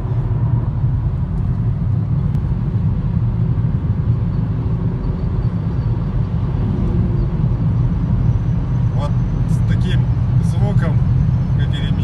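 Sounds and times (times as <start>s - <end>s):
road and wind noise in car cabin: 0.0s - 12.0s.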